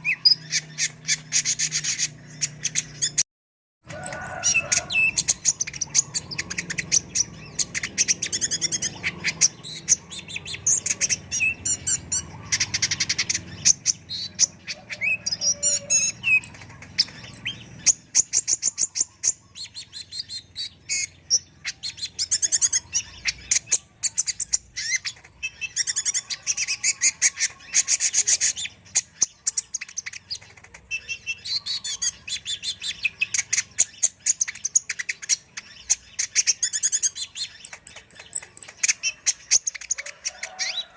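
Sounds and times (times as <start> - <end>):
bird chirping and twittering: 0.0 - 3.2, 3.8 - 40.9.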